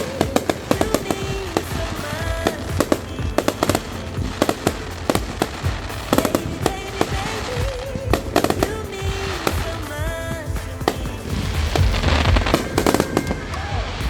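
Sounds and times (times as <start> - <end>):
background music: 0.0 - 14.0
fireworks bangs: 0.0 - 14.0.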